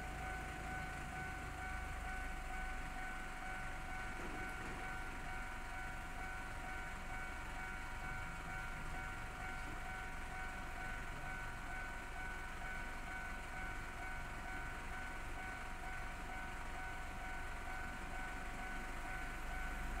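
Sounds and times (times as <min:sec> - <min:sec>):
level-crossing warning bell: 0:00.0 - 0:20.0.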